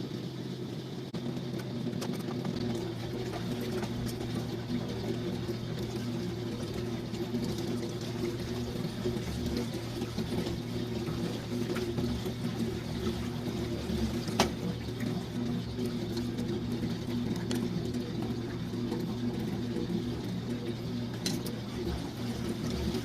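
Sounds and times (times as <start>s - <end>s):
washing machine motor hum: 0.0s - 23.0s
water sloshing in tub: 1.1s - 23.0s.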